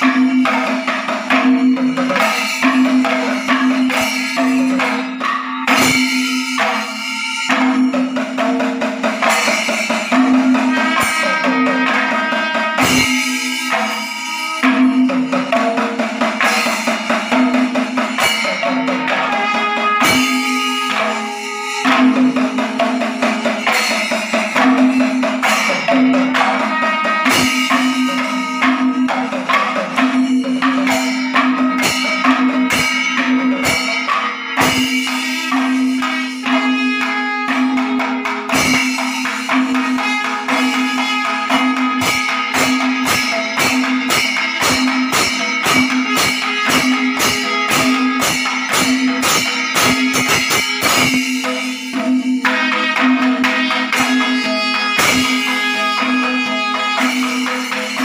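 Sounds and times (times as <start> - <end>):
drums playing dense rhythm: 0.0 - 58.0
small cymbals: 0.0 - 58.0.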